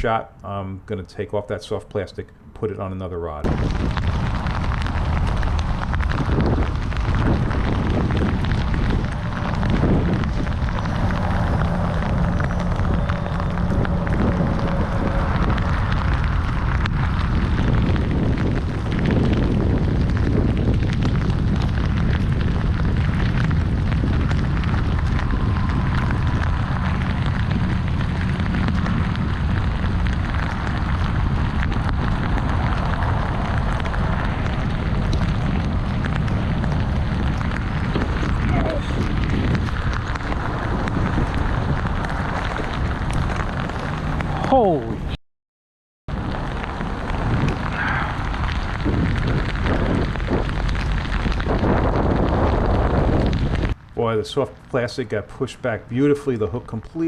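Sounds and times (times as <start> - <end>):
wind buffeting microphone: 0.0 - 45.2, 46.1 - 57.0.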